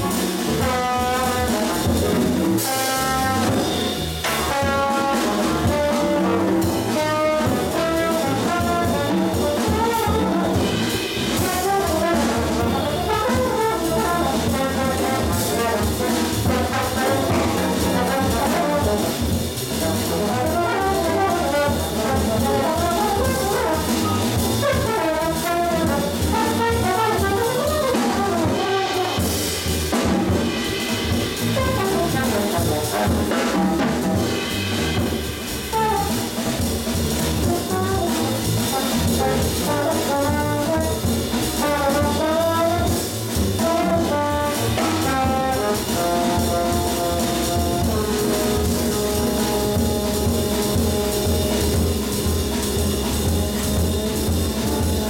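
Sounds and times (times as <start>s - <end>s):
drum kit: 0.0s - 55.0s
piano: 0.0s - 55.0s
trombone melody: 0.0s - 55.0s
upright bass: 0.0s - 55.0s.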